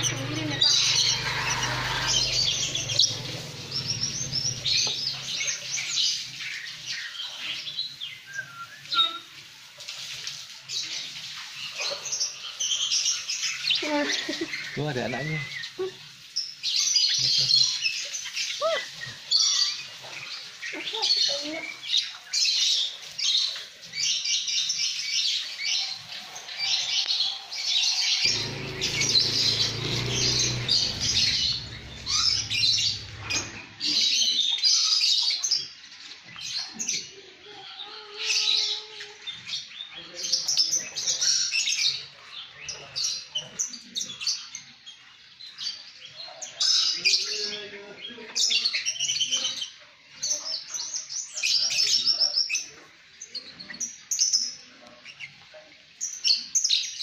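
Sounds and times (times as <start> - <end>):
birds chattering and chirping: 0.0 - 9.4, 10.6 - 57.0.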